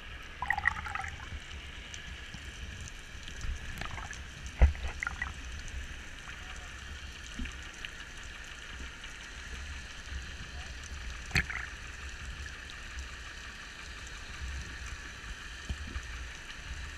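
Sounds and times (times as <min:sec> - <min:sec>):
underwater sea rumble and hiss: 0:00.0 - 0:16.9
faint underwater clicks: 0:00.2 - 0:16.9.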